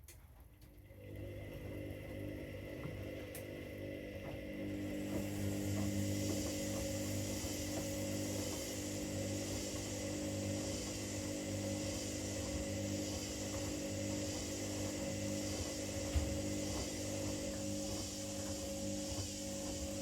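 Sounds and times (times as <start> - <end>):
washing machines humming: 0.0 - 20.0.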